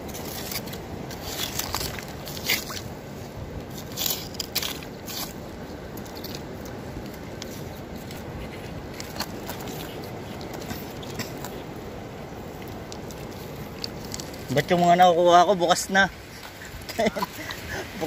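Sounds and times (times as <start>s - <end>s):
water washing on shore: 0.0s - 18.0s
wind: 0.0s - 18.0s.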